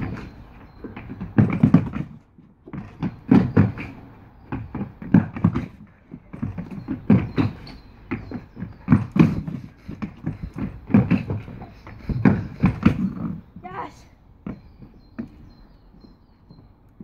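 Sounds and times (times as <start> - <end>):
running footsteps on wooden boards: 0.0 - 17.0.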